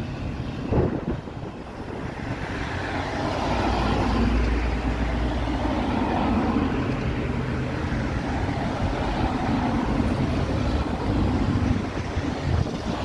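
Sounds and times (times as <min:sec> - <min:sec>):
buses passing: 0:00.0 - 0:13.0
road traffic: 0:00.0 - 0:13.0
wind buffeting microphone: 0:00.0 - 0:13.0.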